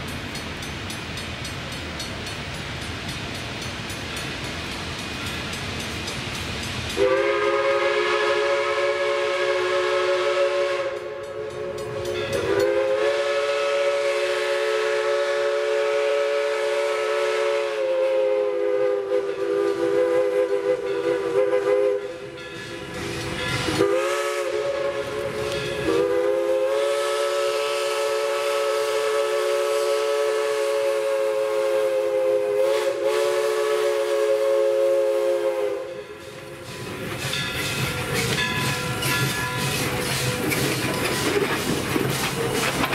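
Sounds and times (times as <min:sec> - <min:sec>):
steam locomotive chime whistle: 0:03.6 - 0:42.8.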